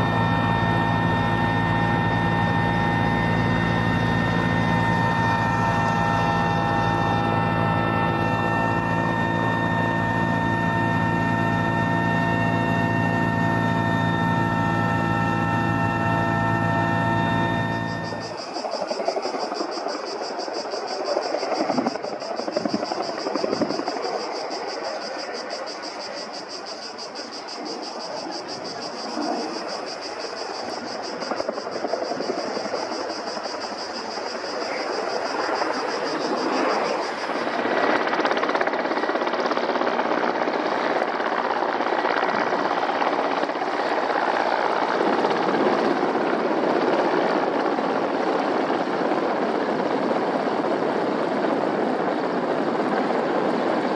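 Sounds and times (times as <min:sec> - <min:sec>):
helicopter rotor rush: 0:00.0 - 0:53.9
high turbine whine: 0:00.0 - 0:53.9.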